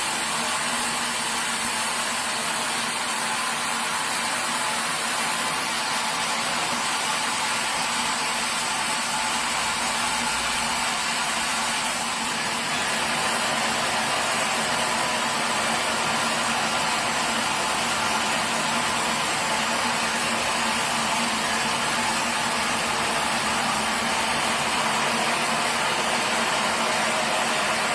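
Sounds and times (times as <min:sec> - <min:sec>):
sawmill machinery running: 0:00.0 - 0:27.9.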